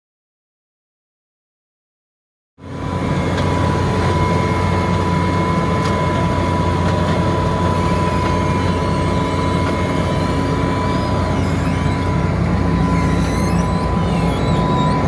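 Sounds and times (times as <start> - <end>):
diesel engine running: 2.6 - 15.0
high whine: 2.6 - 15.0.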